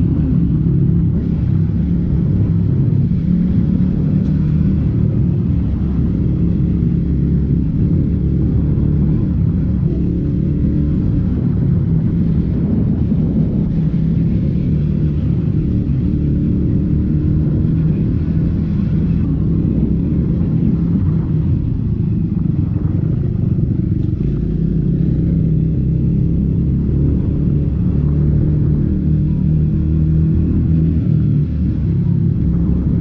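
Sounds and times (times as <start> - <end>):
motorcycle engine rumble: 0.0 - 33.0.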